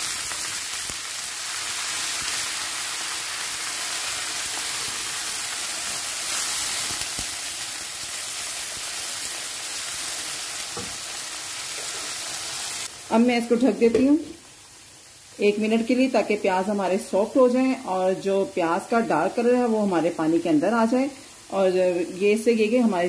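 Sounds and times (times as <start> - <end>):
onions sizzling in oil: 0.0 - 23.0
potatoes frying in pan: 0.0 - 23.0.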